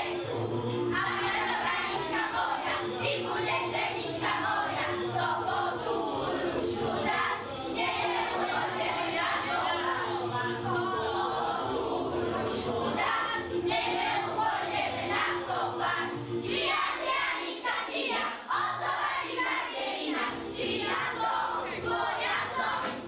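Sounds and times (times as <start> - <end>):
children singing together: 0.0 - 23.0
musical accompaniment: 0.0 - 23.0.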